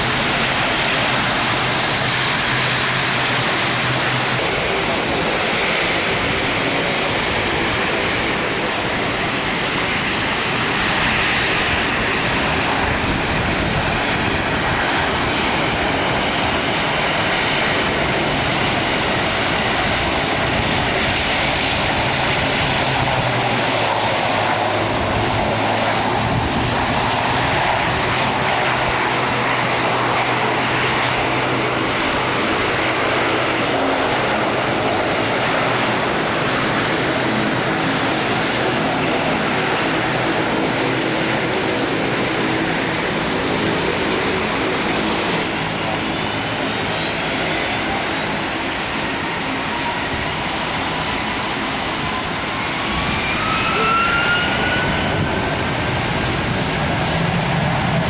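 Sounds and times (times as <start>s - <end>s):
aircraft engines running: 0.0s - 58.0s.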